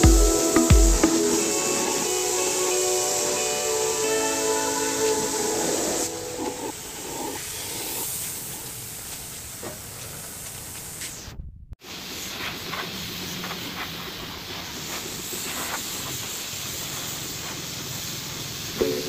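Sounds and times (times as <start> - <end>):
spray gun hissing: 0.0 - 9.6, 11.8 - 19.0.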